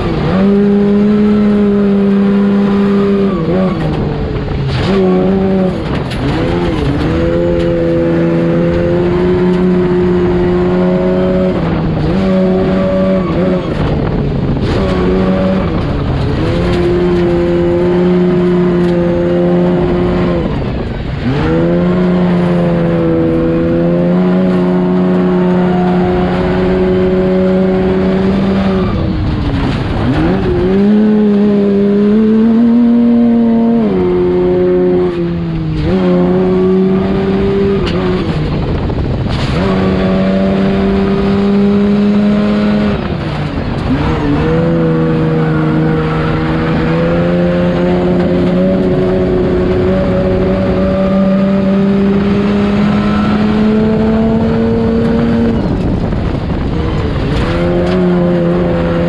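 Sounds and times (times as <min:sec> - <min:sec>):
truck engine revving: 0:00.0 - 0:59.0
truck rumbling on dirt track: 0:00.0 - 0:59.0.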